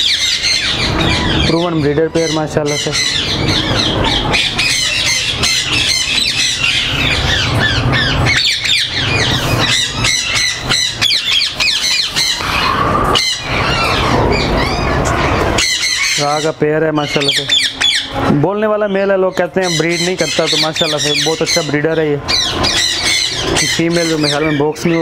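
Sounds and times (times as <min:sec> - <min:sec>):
parakeets squawking and chattering: 0:00.0 - 0:25.0.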